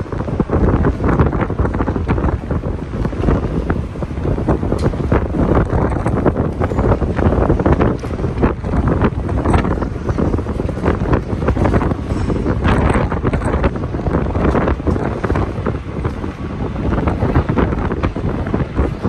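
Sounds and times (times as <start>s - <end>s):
loud city street noise: 0.0s - 19.0s
wind buffeting microphone: 0.0s - 19.0s.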